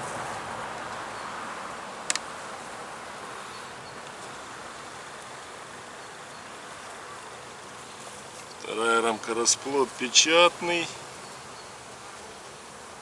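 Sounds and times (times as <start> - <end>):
bees buzzing: 1.9 - 13.0.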